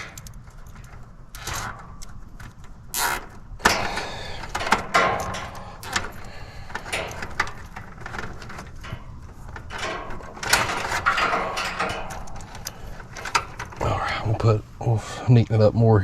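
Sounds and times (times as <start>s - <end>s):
rustle of wires and strap: 0.0s - 14.0s.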